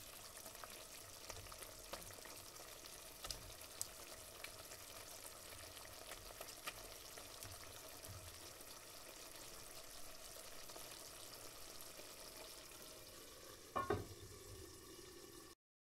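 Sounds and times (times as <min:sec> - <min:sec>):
food sizzling in a pan: 0:00.0 - 0:15.6.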